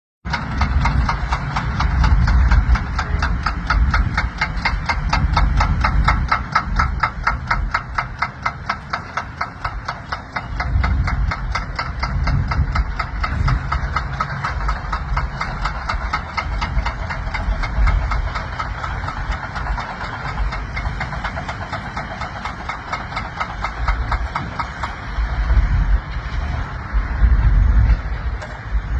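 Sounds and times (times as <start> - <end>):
heavy diesel engine running: 0.2 - 28.9.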